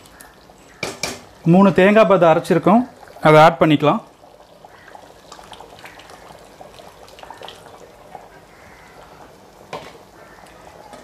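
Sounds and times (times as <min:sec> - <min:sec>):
curry bubbling: 0:00.0 - 0:11.0.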